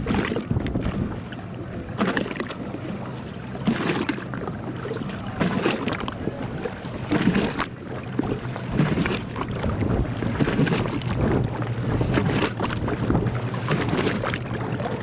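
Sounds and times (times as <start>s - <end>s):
motorboat engine running: 0.0s - 15.0s
rushing water and wind: 0.0s - 15.0s.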